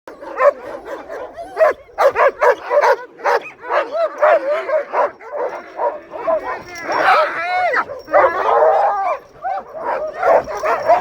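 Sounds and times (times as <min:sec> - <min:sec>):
sled dogs barking and yipping: 0:00.1 - 0:11.0.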